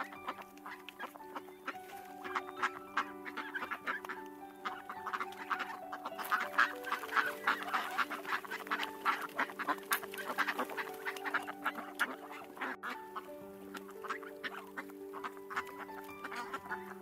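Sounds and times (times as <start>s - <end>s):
flock of birds calling: 0.0s - 17.0s
music with held notes: 0.0s - 17.0s.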